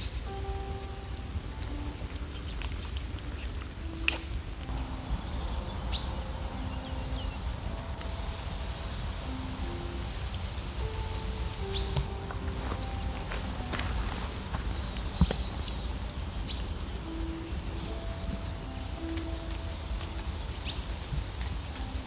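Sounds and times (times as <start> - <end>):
bird chirps: 0.0 - 22.0
soft background music: 0.0 - 22.0
low rumble: 0.8 - 22.0.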